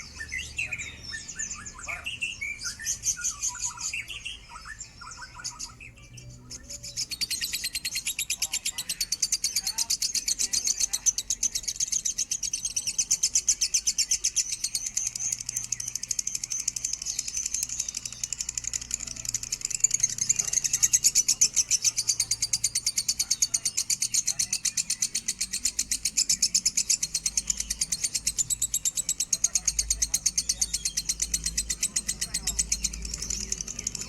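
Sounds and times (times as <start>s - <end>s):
lovebird chattering: 6.7s - 34.0s.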